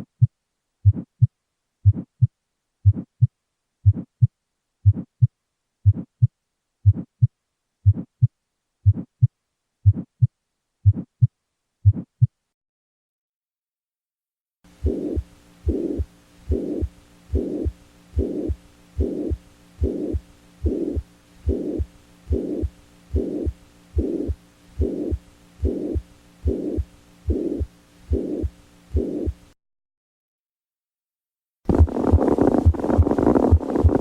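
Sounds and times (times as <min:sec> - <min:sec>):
heartbeat whoosh and thud: 0:00.0 - 0:12.4, 0:14.8 - 0:29.4, 0:31.7 - 0:34.0.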